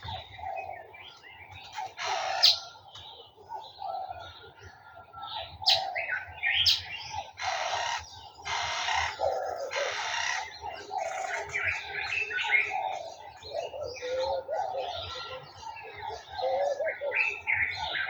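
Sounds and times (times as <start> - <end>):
birds chirping: 0.0 - 18.0
harsh bird calls: 0.0 - 18.0
low bird calls: 0.0 - 18.0.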